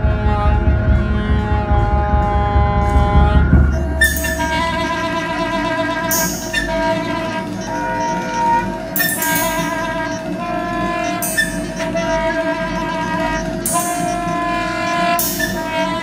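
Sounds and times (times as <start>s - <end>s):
soprano saxophone tone: 0.0s - 16.0s.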